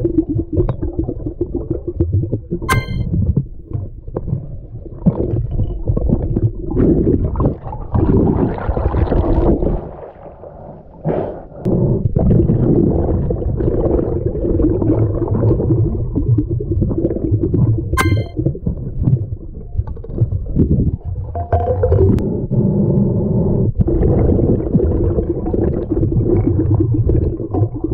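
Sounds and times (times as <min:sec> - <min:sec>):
underwater rumbling and gurgling: 0:00.0 - 0:27.9.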